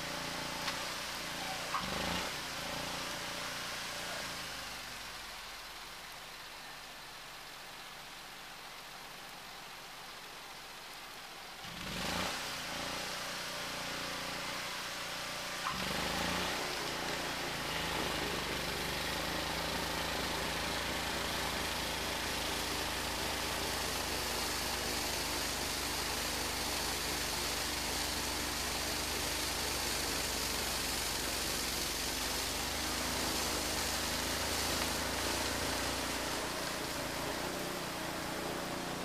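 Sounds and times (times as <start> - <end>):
snowblower engine running: 0.0 - 5.2, 11.7 - 39.0
rushing hiss of thrown snow: 0.0 - 39.0.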